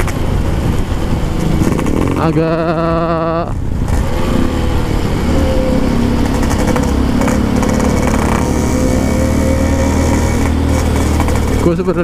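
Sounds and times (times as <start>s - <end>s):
two-stroke motorcycle engine cruising: 0.0s - 12.0s.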